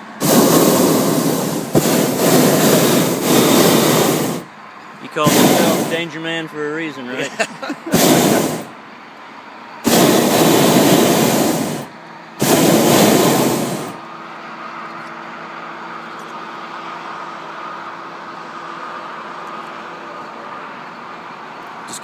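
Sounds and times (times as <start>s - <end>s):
propane burner roaring: 0.0s - 22.0s.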